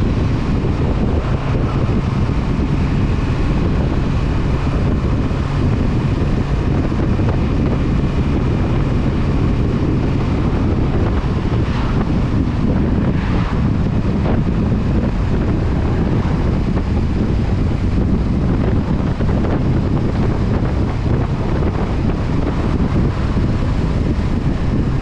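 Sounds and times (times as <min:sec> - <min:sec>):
motorcycle engine cruising: 0:00.0 - 0:25.0
wind noise on microphone: 0:00.0 - 0:25.0.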